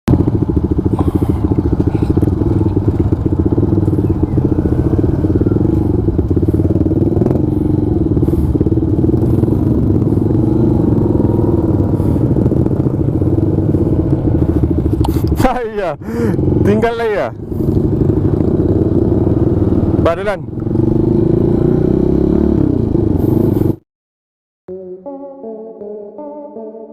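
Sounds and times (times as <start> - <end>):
motorcycle engine idling: 0.1 - 23.8.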